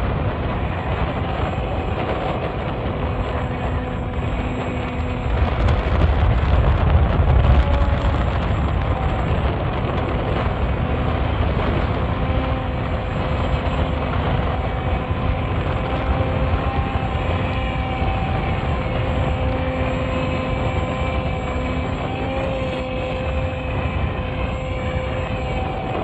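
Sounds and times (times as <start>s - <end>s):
small motor humming: 0.0s - 26.0s
strong wind buffeting microphone: 0.0s - 26.0s.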